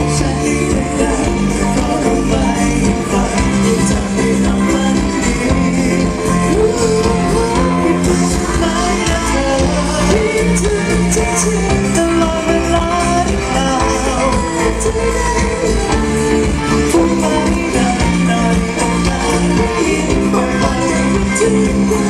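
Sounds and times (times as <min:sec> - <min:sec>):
live pop band music: 0:00.0 - 0:22.0
person singing: 0:00.0 - 0:22.0.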